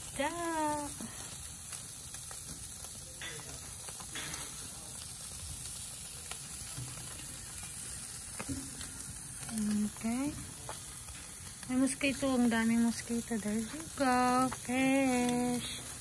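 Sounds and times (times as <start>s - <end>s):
food sizzling on a grill: 0.0s - 16.0s.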